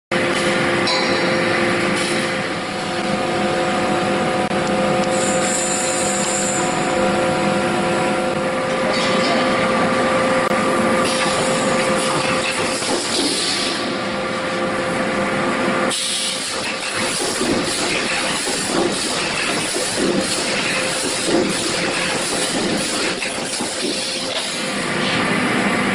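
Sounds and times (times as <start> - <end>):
welding machine running: 1.5 - 25.9.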